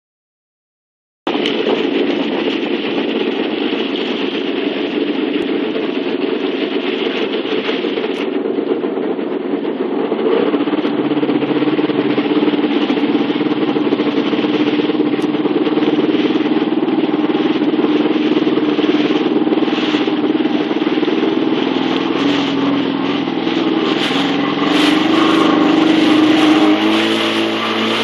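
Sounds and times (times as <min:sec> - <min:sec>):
watercraft engine running: 0:01.3 - 0:28.0
water rushing past hull: 0:01.4 - 0:28.0.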